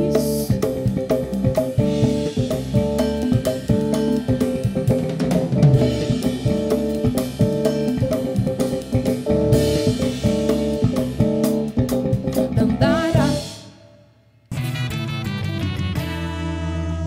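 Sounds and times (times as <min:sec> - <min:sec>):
congas: 0:00.0 - 0:13.9, 0:14.5 - 0:17.0
drum kit: 0:00.0 - 0:17.0
electric bass line: 0:00.0 - 0:17.0
keyboard chords: 0:00.0 - 0:17.0.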